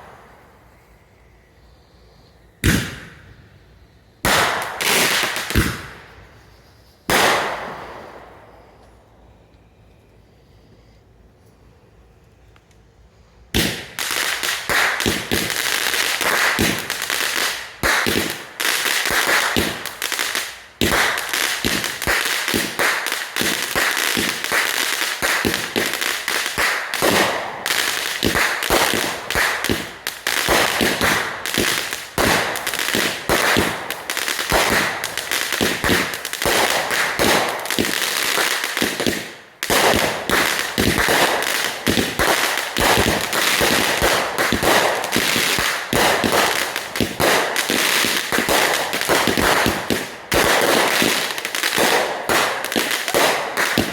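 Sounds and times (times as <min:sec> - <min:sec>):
firecrackers popping: 0:02.6 - 0:03.4, 0:04.2 - 0:09.0, 0:13.5 - 0:53.9.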